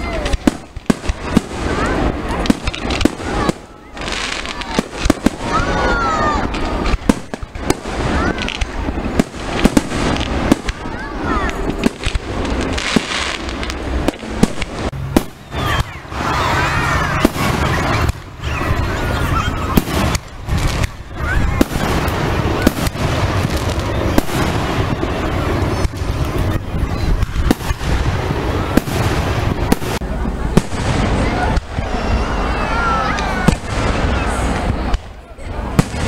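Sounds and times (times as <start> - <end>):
fireworks bursting bangs: 0.0 - 36.0.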